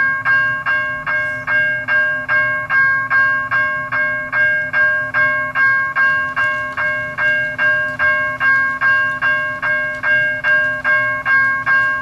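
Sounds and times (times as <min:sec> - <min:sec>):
railroad crossing bell ringing: 0:00.0 - 0:12.0
steady low hum: 0:00.0 - 0:12.0.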